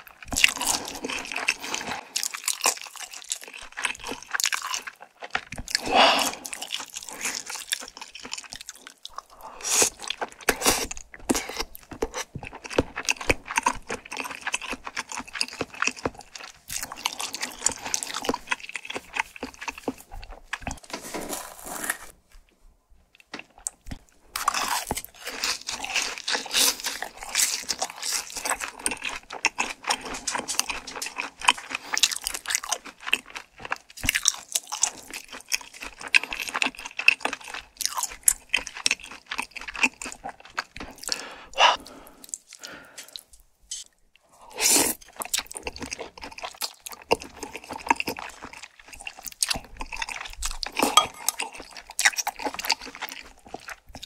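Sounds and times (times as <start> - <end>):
close chewing with wet smacks: 0.0 - 20.8, 22.4 - 44.3, 44.9 - 54.0.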